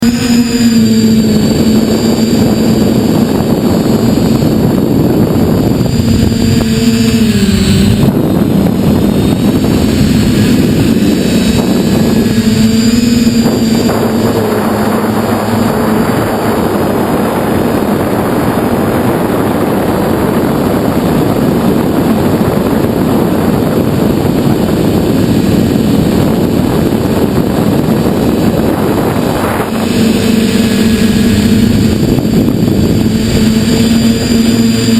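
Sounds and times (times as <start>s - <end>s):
broad rushing noise: 0.0s - 34.9s
quadcopter motors humming: 0.0s - 34.9s
thin high whine: 0.0s - 34.9s.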